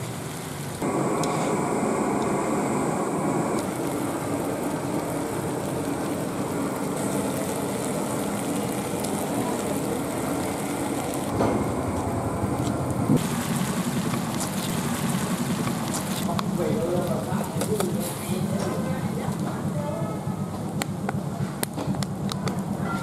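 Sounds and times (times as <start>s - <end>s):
food sizzling in a wok: 0.0s - 19.4s
gas burner rumble: 0.0s - 23.0s.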